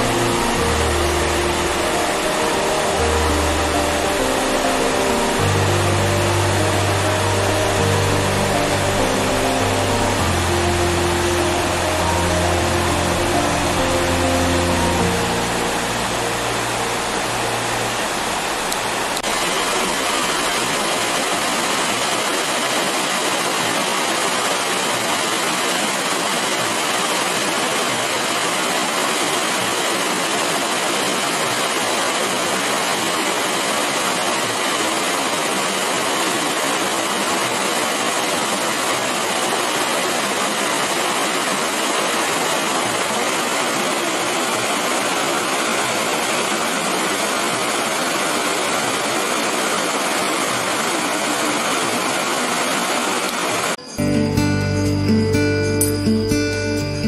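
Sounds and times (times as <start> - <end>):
water rushing over a weir: 0.0 - 53.8.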